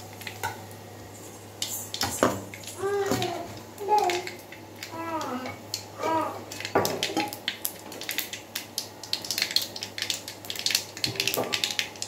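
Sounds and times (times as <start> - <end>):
spices spluttering in hot oil: 0.0 - 12.0.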